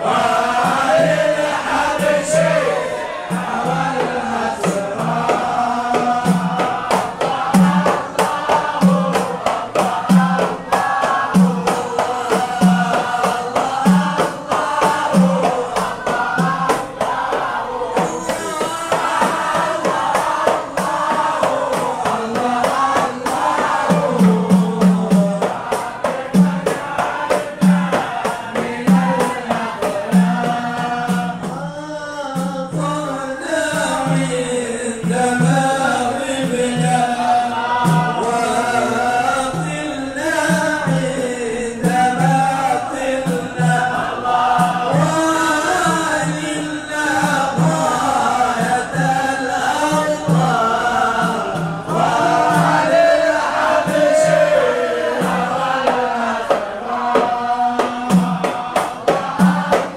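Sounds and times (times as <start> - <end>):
men singing in chorus: 0.0 - 59.9.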